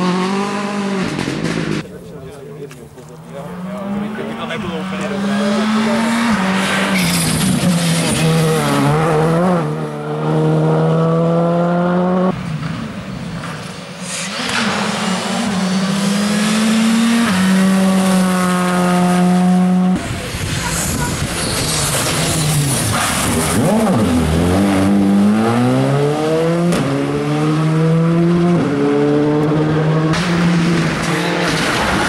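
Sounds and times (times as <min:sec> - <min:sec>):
rally car engines at full throttle: 0:00.0 - 0:32.0.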